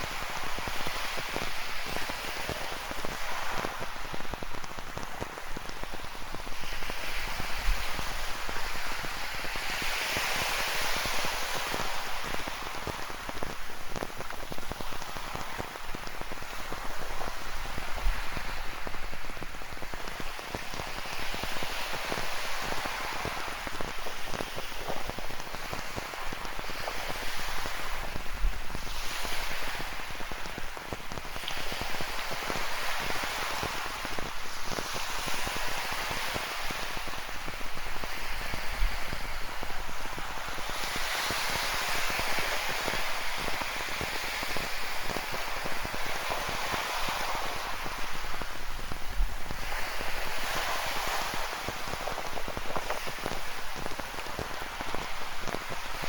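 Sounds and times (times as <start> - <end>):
ocean surf washing in: 0.0 - 56.0
rain pattering: 0.0 - 56.0.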